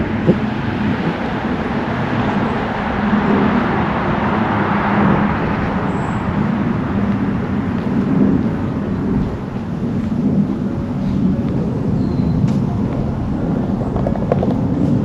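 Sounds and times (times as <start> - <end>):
road traffic rumble: 0.0 - 15.0
vehicle passing by: 0.0 - 15.0.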